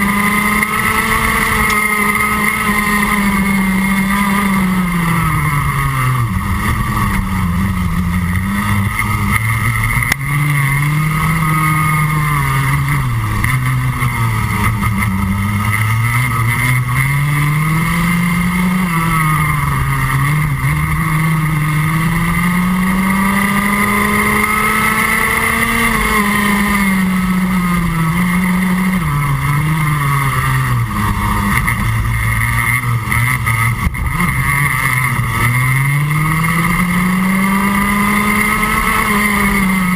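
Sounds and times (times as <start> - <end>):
kart engine revving: 0.0 - 39.9
other kart engines: 0.0 - 39.9.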